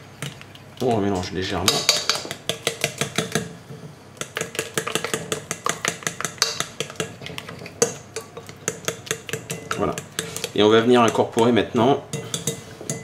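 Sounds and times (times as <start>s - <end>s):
utensil beating batter in glass bowl: 0.8s - 3.5s, 4.2s - 13.0s.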